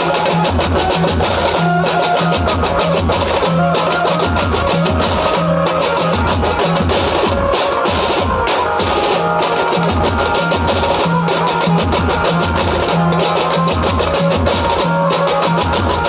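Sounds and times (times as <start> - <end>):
driving drum beat: 0.0 - 16.0.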